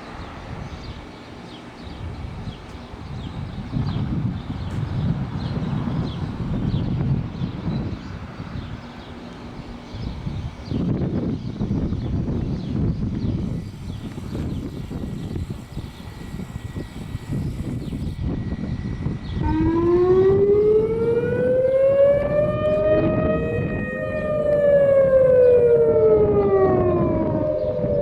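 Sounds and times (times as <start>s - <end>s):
wailing warning sirens: 5.1s - 28.0s.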